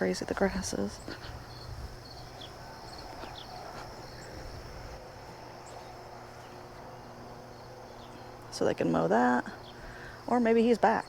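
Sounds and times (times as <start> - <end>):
faint insect chirps: 0.0 - 11.0
insects trilling: 0.0 - 11.0.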